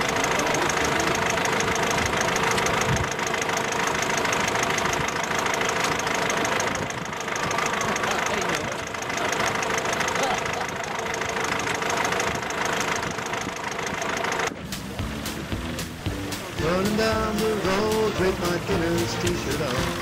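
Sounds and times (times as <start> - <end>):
tractor engine chugging: 0.0 - 20.0.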